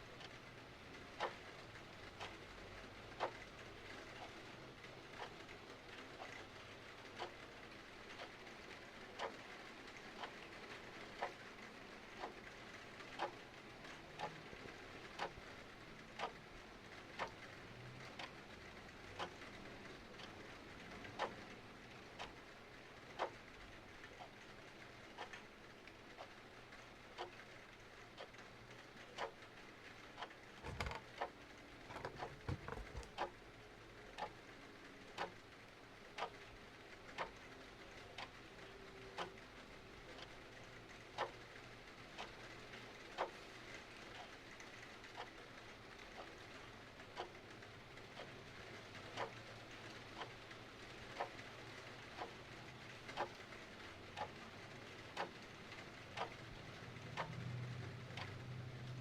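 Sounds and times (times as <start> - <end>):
clock ticking: 0.0 - 33.5, 34.1 - 59.0
rain pattering: 0.0 - 59.0.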